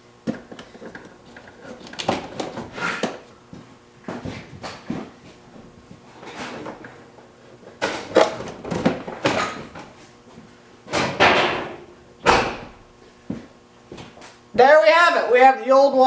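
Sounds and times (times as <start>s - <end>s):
handling noises: 0.2s - 14.5s.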